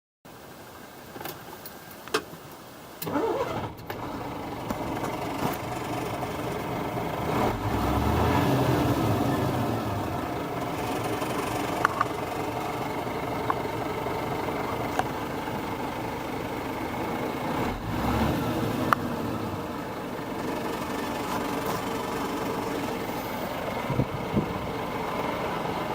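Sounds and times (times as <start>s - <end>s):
truck diesel engine starting and idling: 2.9s - 25.9s.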